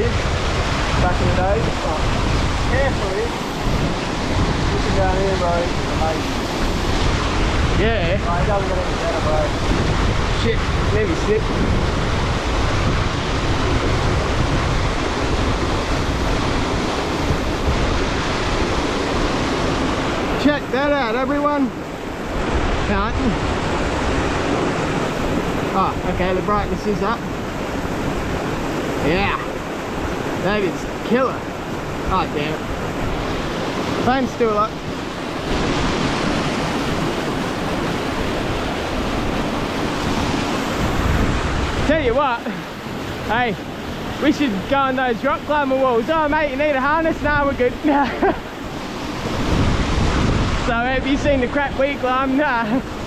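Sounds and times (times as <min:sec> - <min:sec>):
creek water rushing over rocks: 0:00.0 - 0:53.0.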